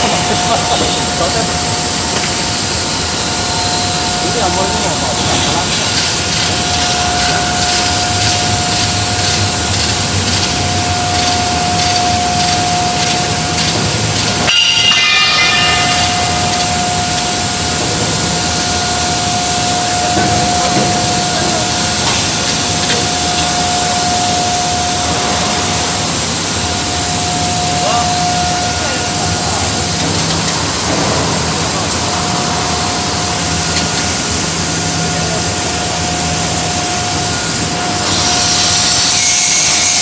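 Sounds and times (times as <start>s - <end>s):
welding machinery hiss and whine: 0.0s - 40.0s.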